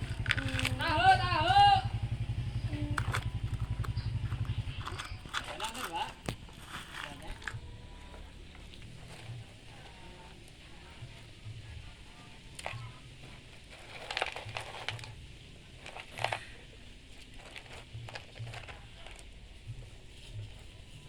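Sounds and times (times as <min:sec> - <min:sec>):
toy trucks scraping sand: 0:00.0 - 0:11.2, 0:12.6 - 0:20.9.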